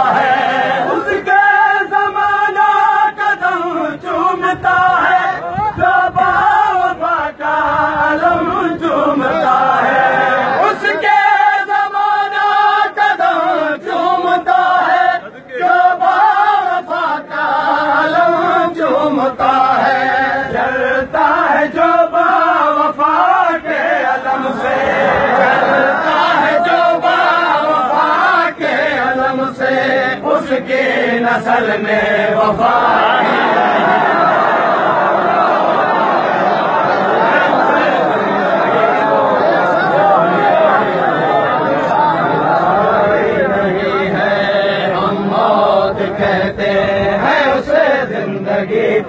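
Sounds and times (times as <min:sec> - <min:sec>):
crowd noise: 0:00.0 - 0:49.0
men chanting in unison: 0:00.0 - 0:49.0.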